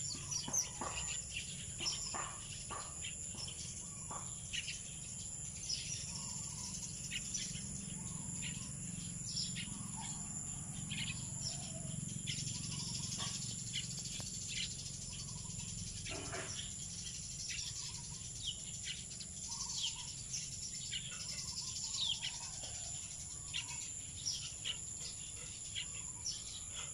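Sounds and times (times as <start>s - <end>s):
birds chirping: 0.0s - 26.9s
high-pitched insect drone: 0.0s - 26.9s.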